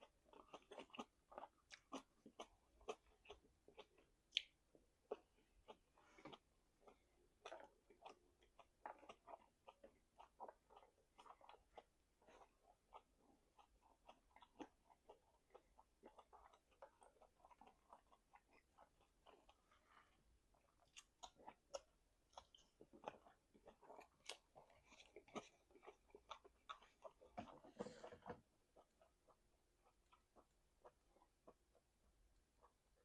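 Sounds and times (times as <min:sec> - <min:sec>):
person chewing with mouth smacks: 0:00.0 - 0:33.0.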